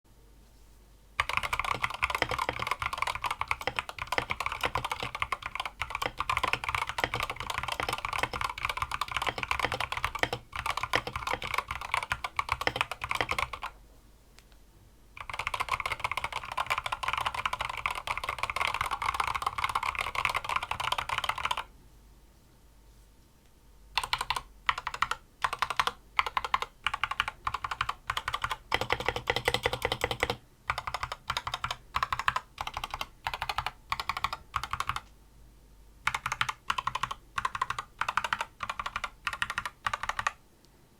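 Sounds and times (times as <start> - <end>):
mechanical keyboard typing: 1.2 - 13.8, 15.2 - 21.7, 24.0 - 35.1, 36.0 - 40.4.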